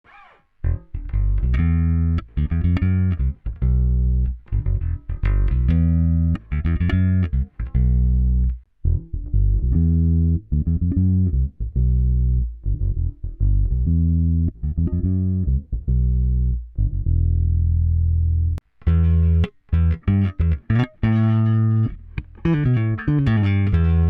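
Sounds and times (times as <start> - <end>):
electric bass guitar plucked notes: 0.6 - 24.0.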